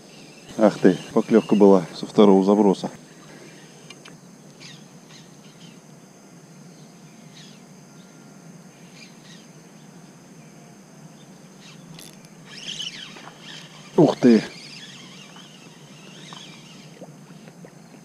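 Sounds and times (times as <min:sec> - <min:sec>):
faint hiss: 0:00.0 - 0:18.0
high insect drone: 0:00.0 - 0:18.0.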